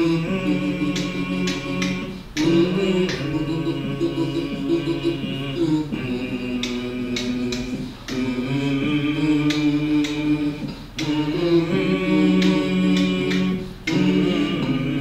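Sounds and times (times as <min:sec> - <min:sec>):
group singing a cappella: 0:00.0 - 0:15.0.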